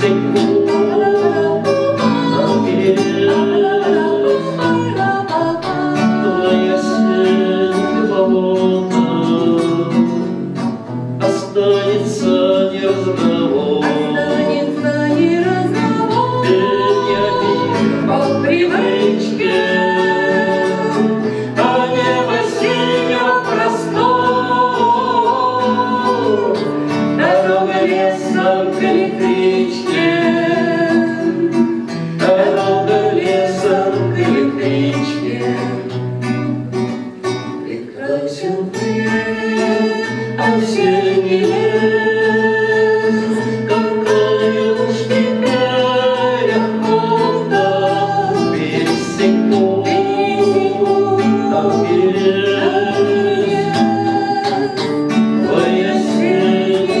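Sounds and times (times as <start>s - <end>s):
acoustic guitar: 0.0s - 57.0s
man and woman singing duet: 0.0s - 57.0s.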